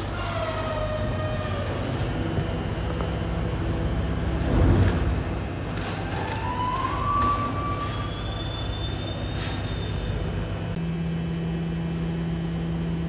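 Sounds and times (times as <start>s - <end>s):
garbage truck compactor hum: 0.0s - 13.0s.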